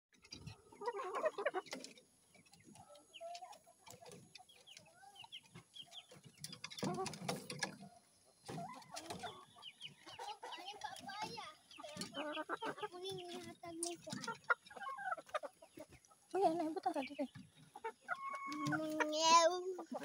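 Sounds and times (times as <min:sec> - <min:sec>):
chickens clucking and squawking: 0:00.2 - 0:20.0.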